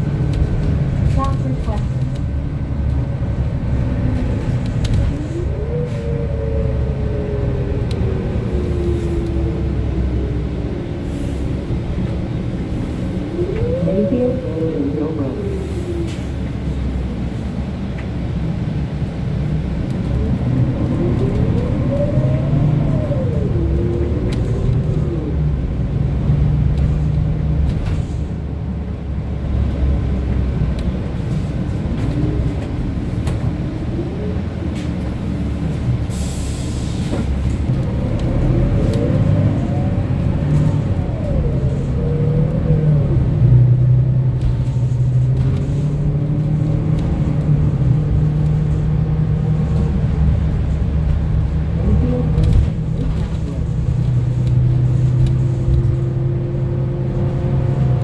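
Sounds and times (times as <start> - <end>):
bus engine rumble: 0.0 - 58.0
whine of bus accelerating: 0.0 - 58.0.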